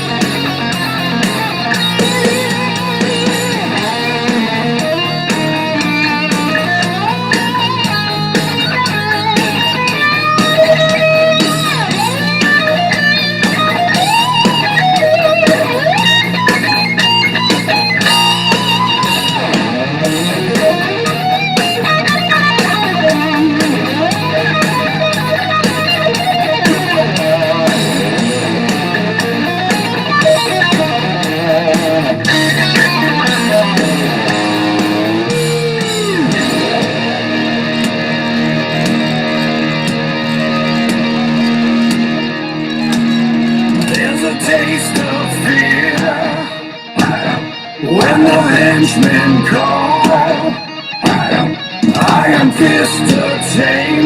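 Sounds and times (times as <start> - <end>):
steady drum beat: 0.0 - 46.3, 47.0 - 50.4, 51.0 - 54.0
distorted rhythm guitar: 0.0 - 54.0
electric lead guitar: 0.0 - 54.0.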